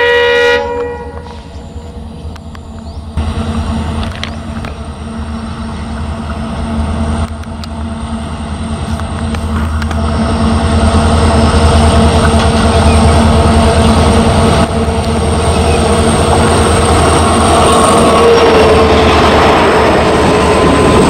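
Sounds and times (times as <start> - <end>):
diesel locomotive engines droning: 0.0 - 21.0.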